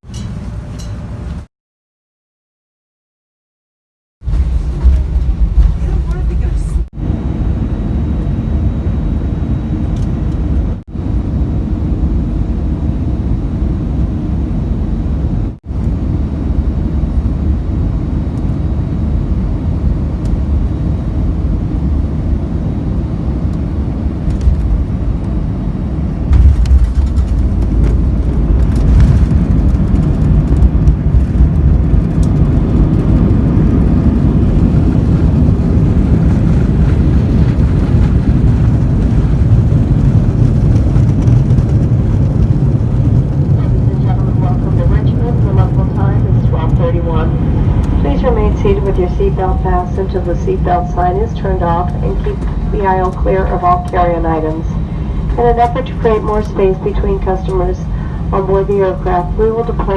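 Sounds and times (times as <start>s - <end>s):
jet engine and airflow rumble: 0.0s - 1.5s, 4.2s - 59.9s.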